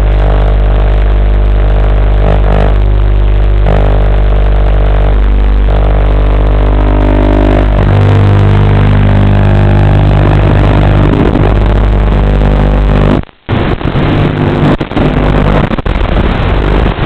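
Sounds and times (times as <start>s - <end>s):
electrical buzz: 0.0s - 17.0s.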